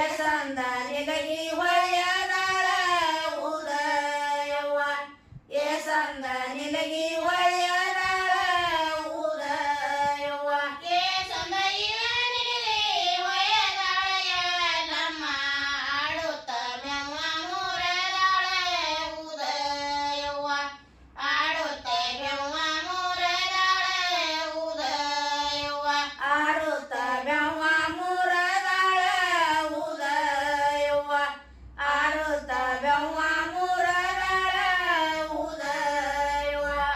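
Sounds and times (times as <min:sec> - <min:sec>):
women singing in unison: 0:00.0 - 0:36.9.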